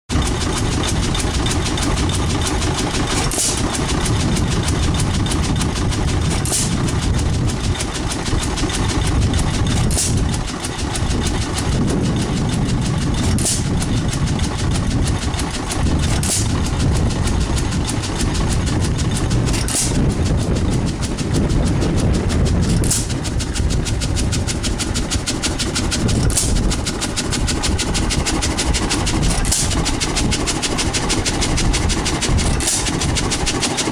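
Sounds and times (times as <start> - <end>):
engine chugging: 0.1 - 33.9
sharp engine crack: 0.1 - 33.9.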